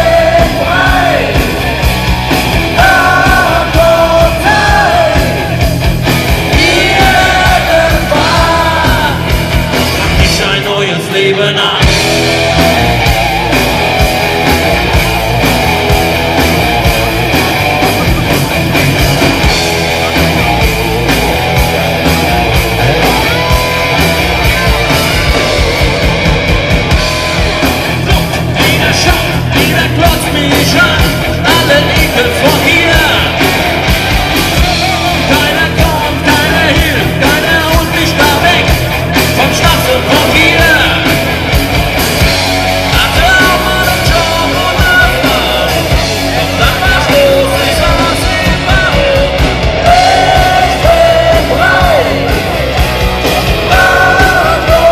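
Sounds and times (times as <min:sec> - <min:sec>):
distorted electric guitars: 0:00.0 - 0:54.9
drums: 0:00.0 - 0:54.9
live rock band playing: 0:00.0 - 0:54.9.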